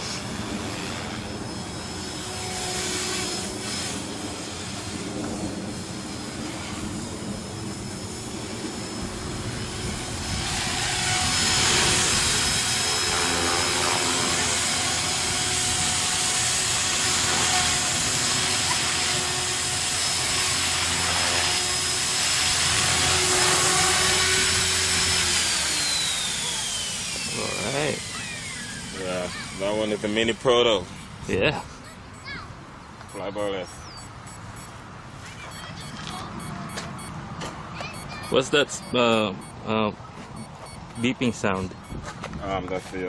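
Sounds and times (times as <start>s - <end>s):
rc helicopter rotor whine: 0.0s - 32.4s, 33.0s - 37.2s, 37.8s - 43.0s.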